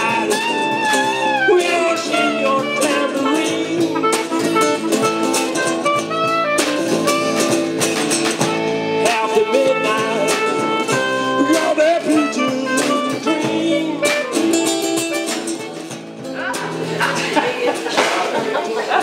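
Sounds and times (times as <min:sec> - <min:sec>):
clarinet playing jazzy melody: 0:00.0 - 0:16.8
strummed acoustic guitar: 0:00.0 - 0:19.0.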